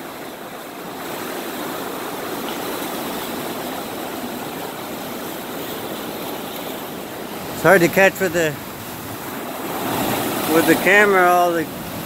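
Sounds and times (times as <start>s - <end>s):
ocean surf washing around rocks: 0.0s - 12.0s.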